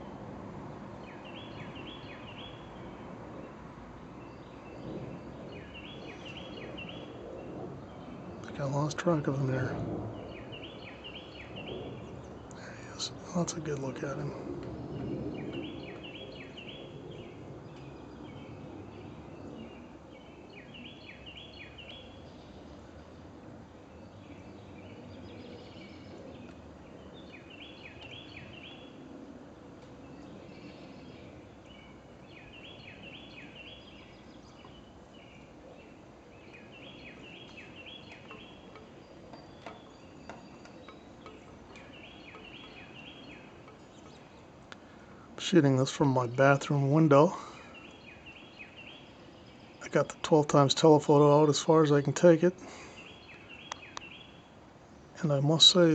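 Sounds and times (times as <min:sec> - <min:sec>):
songbird singing: 0:00.0 - 0:55.9
background hiss: 0:04.9 - 0:17.4, 0:19.6 - 0:55.9.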